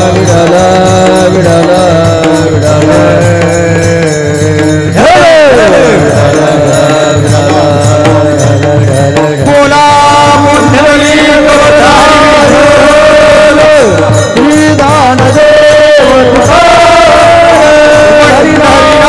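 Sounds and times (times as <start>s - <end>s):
devotional music: 0.0s - 19.0s.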